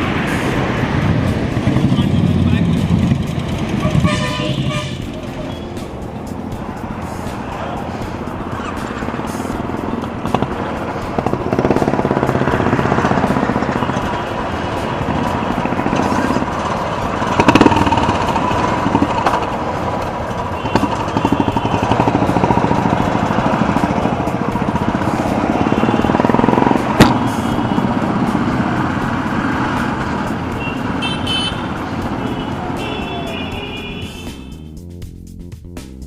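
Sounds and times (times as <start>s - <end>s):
motorcycle engine running: 0.0s - 34.8s.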